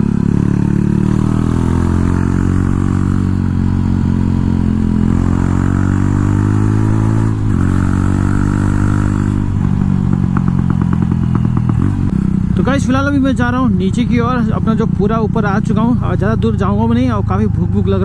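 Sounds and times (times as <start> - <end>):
motorcycle engine through loud exhaust: 0.0 - 18.0.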